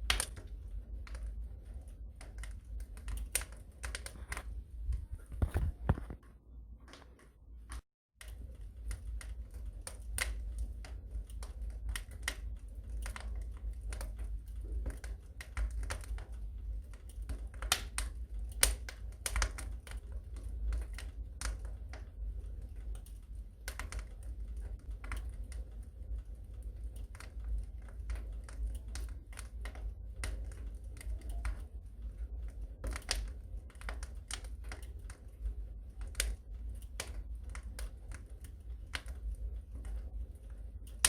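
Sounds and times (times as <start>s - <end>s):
low rumble of flames: 0.0s - 41.0s
wood fire crackling: 0.0s - 41.0s.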